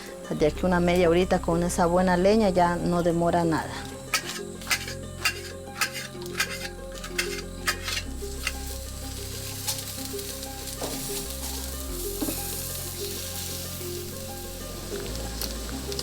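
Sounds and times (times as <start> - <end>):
quiet background music: 0.0 - 16.0
fish sizzling over fire: 2.8 - 16.0.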